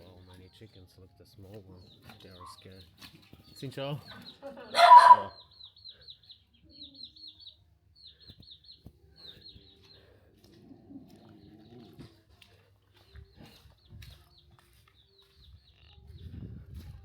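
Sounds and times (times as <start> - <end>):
chicks peeping: 1.6 - 16.9.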